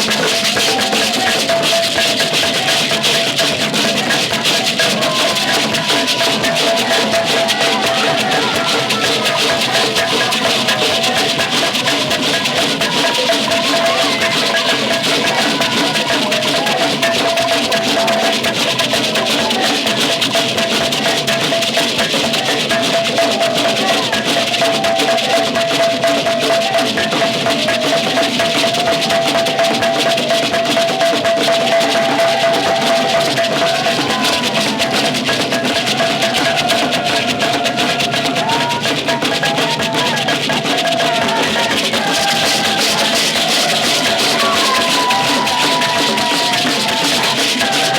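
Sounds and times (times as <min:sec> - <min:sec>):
percussion music: 0:00.0 - 0:47.9.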